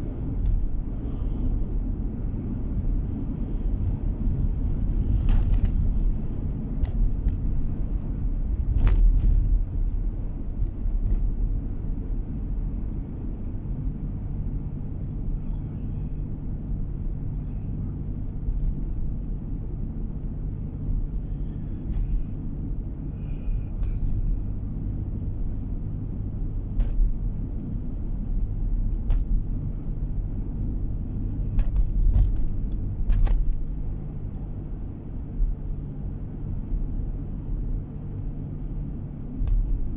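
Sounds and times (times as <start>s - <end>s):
car engine and road hum: 0.0s - 39.9s.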